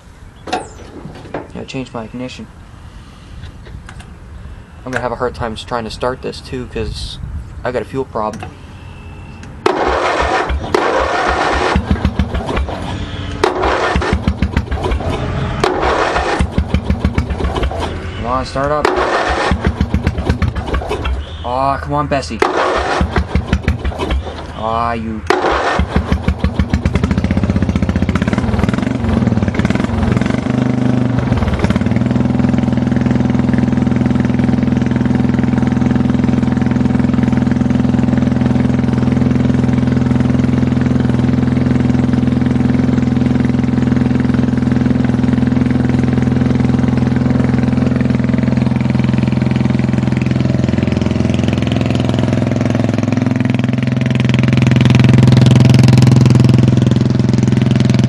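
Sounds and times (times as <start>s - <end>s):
small engine cranking and running: 9.6s - 21.4s, 22.3s - 58.0s.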